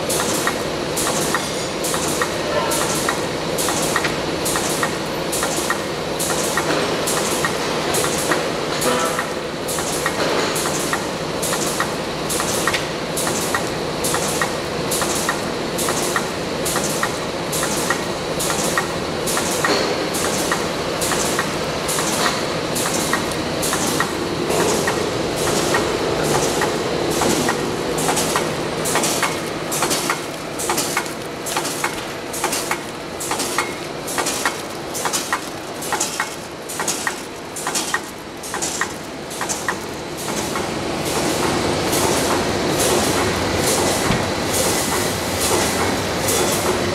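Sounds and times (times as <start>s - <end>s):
die cutting machine clattering: 0.1s - 46.9s.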